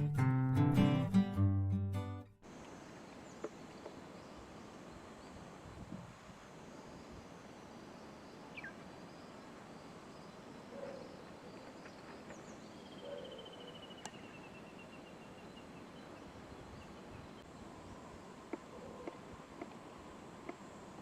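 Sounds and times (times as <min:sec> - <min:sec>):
steady low hiss: 0:02.4 - 0:12.9, 0:13.9 - 0:21.0.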